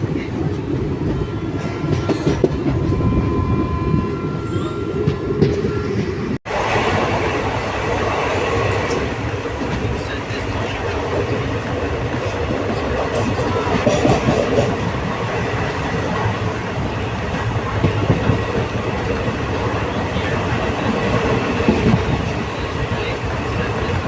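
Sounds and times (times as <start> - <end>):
train rumbling along track: 0.0 - 24.0.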